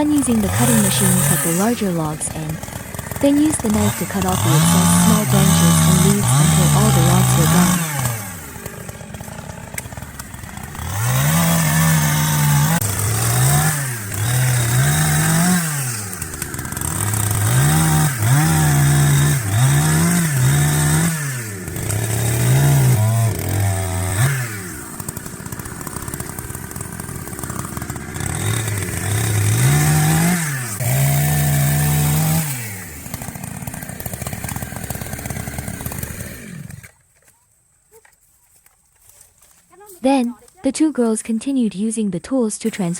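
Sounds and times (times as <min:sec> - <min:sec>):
chainsaw revving and cutting: 0:00.0 - 0:37.0, 0:42.6 - 0:42.9.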